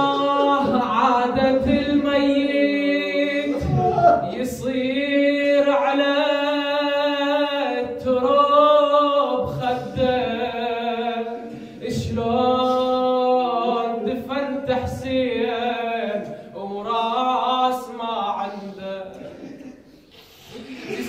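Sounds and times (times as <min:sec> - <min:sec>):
man chanting unaccompanied: 0:00.0 - 0:19.7.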